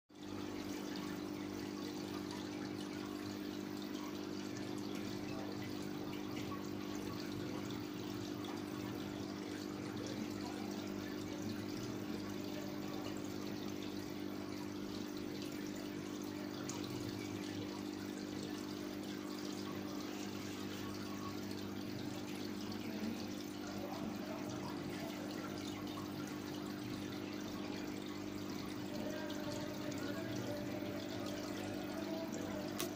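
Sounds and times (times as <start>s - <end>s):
filter pump humming: 0.1s - 32.9s
water splashing and trickling: 0.1s - 32.9s.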